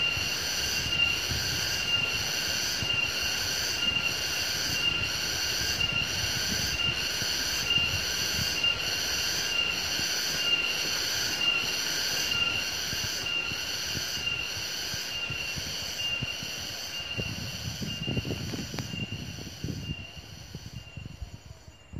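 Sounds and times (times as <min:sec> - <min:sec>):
insects buzzing: 0:00.0 - 0:21.9.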